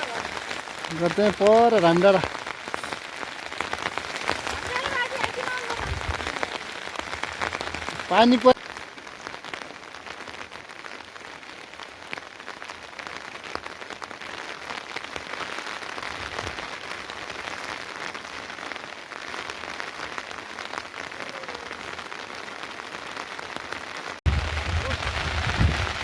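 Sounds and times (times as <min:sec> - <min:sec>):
raindrops ticking close by: 0:00.0 - 0:26.0
steady rain falling: 0:00.0 - 0:26.0.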